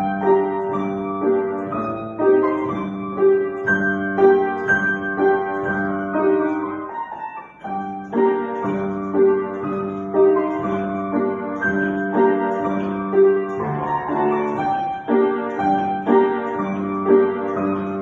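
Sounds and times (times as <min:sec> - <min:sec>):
solo piano folk dance: 0:00.0 - 0:18.0.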